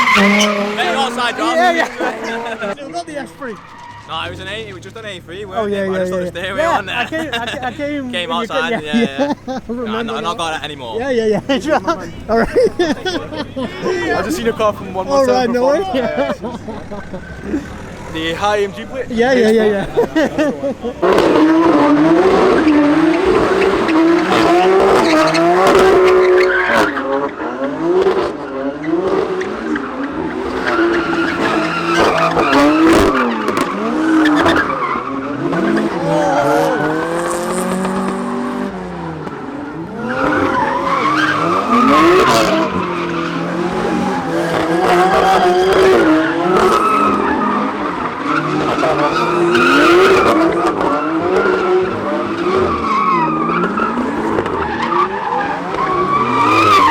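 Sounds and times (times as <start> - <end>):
car engines revving: 0.0 - 56.9
car tyres squealing: 0.0 - 56.9.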